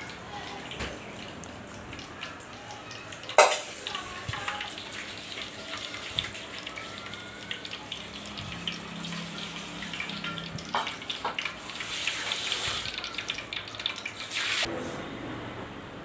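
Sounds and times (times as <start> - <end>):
oil hissing and crackling: 0.0 - 14.7.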